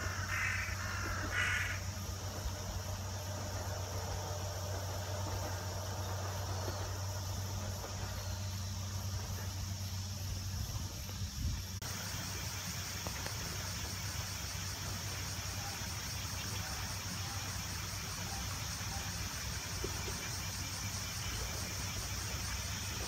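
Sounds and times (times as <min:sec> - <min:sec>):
insects trilling: 0:00.0 - 0:23.0
steady low hum: 0:00.0 - 0:23.0.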